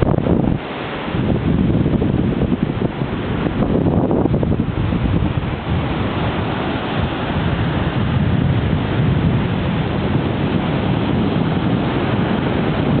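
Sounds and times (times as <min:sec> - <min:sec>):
sea waves washing: 0:00.0 - 0:13.0
wind buffeting microphone: 0:00.0 - 0:13.0.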